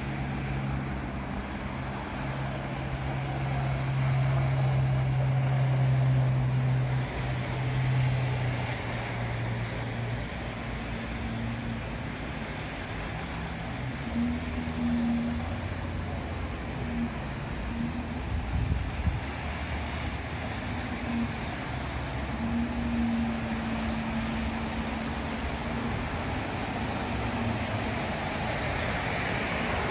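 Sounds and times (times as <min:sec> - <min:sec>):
low engine hum: 0:00.0 - 0:29.9
traffic rushing on snowy street: 0:00.0 - 0:29.9.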